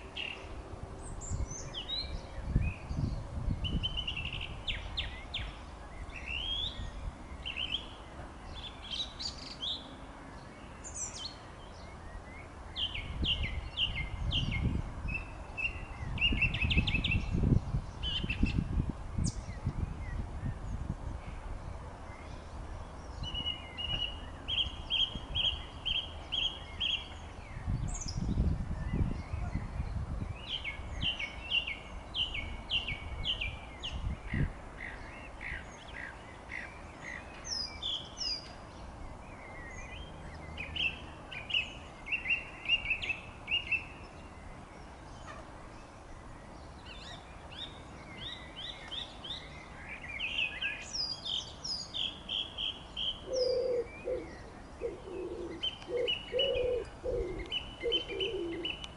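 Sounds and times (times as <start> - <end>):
song thrush singing: 0.0 - 58.9.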